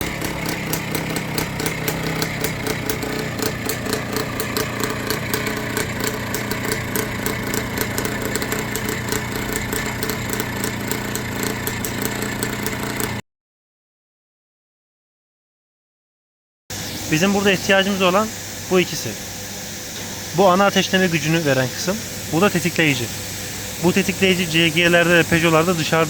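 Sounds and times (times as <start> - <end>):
two-stroke motorcycle engine running: 0.0 - 13.2, 16.7 - 26.0.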